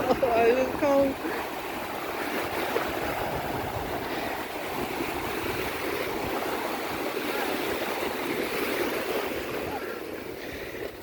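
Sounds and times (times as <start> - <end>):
sea surf washing on beach: 0.0 - 11.0.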